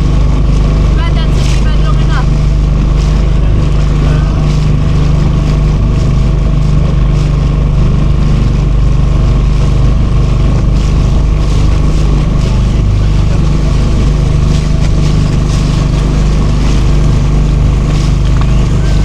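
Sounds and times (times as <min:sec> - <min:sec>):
faint engine whine: 0:00.0 - 0:19.0
motorboat engine humming: 0:00.0 - 0:19.0.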